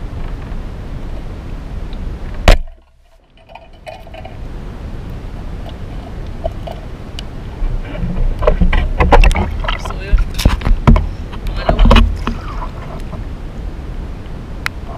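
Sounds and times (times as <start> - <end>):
low underwater rumble: 0.0 - 14.9.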